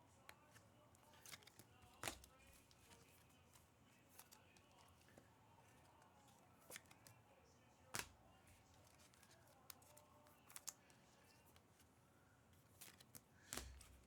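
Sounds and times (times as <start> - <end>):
trading cards clicking and rustling: 0.2 - 14.0.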